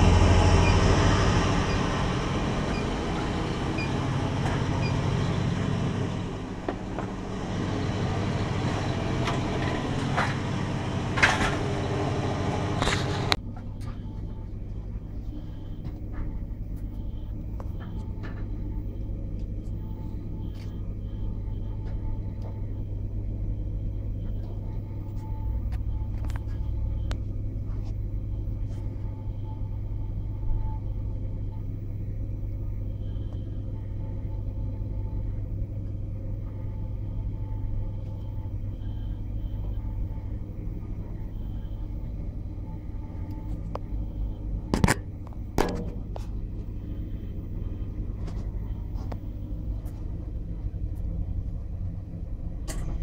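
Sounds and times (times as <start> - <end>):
refrigerator compressor humming: 0.0 - 53.0.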